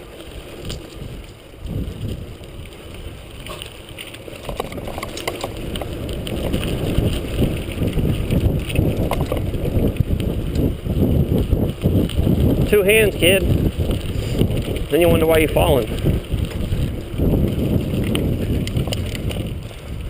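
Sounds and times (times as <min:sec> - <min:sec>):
bicycle clicks and rattles: 0:00.0 - 0:20.0
wind rushing over microphone: 0:00.0 - 0:20.0.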